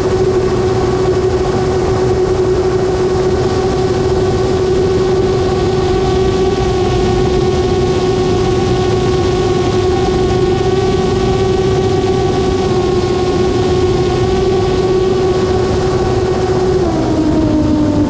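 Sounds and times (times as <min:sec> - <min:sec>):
aircraft motor and propeller: 0:00.0 - 0:18.0.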